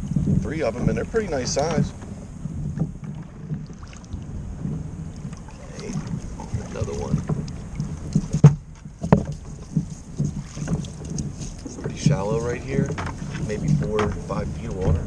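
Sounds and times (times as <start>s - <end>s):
rope and buoy knocking on hull: 0.0s - 15.0s
wind buffeting microphone: 0.0s - 15.0s.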